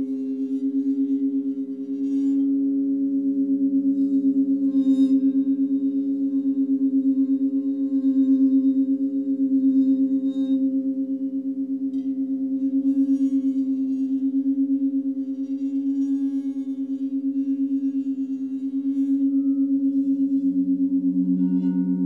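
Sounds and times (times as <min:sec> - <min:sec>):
pulsing low drone tones: 0:00.0 - 0:22.0.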